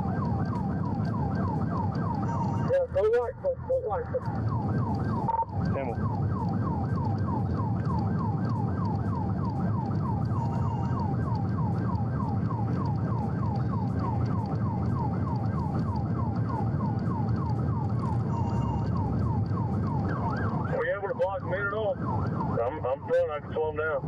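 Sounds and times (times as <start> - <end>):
low vehicle noise: 0.0 - 24.0
police siren yelping: 0.0 - 24.0.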